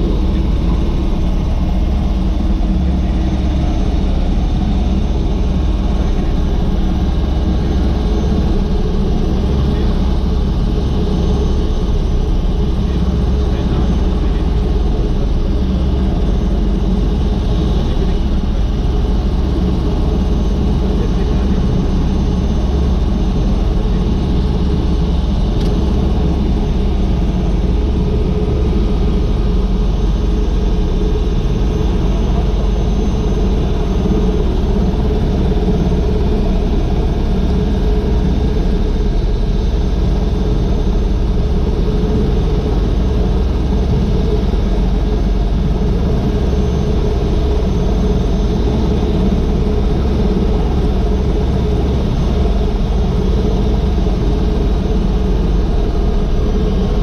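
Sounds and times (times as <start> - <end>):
helicopter idling: 0.0 - 57.0.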